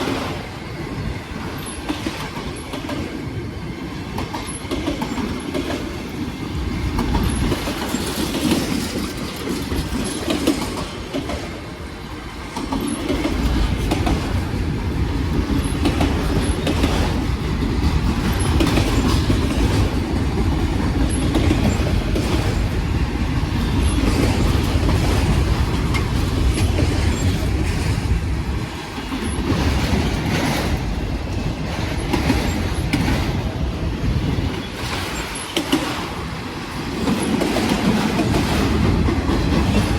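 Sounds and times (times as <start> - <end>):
freight train wheels rumbling: 0.0 - 39.9
wheels clacking on rail joints: 1.4 - 3.2, 4.1 - 39.9.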